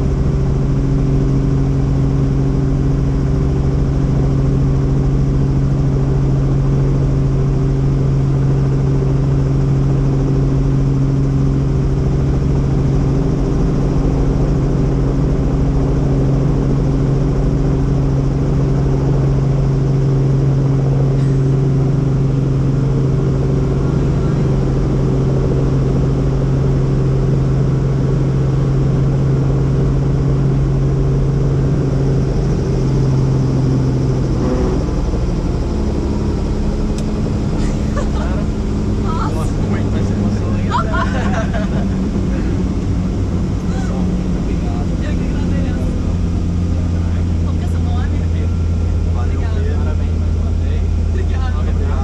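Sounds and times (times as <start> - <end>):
helicopter engine and rotors: 0.0 - 52.0.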